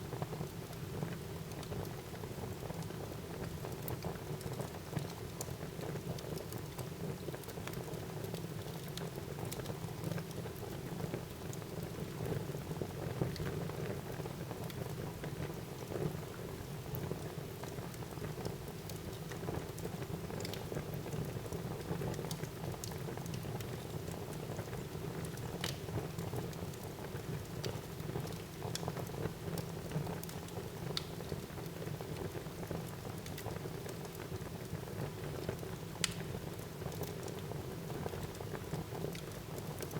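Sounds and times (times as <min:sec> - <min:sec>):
wood fire crackling: 0:00.2 - 0:39.9.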